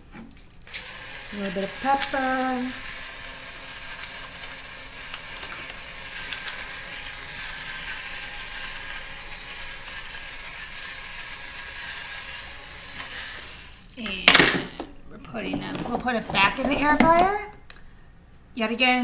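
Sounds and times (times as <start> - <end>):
pepper grinder motor grinding: 0.5 - 14.0, 15.4 - 17.4.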